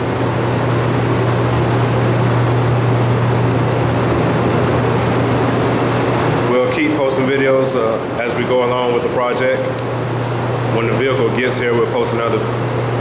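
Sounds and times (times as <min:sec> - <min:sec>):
large fan humming: 0:00.0 - 0:13.0.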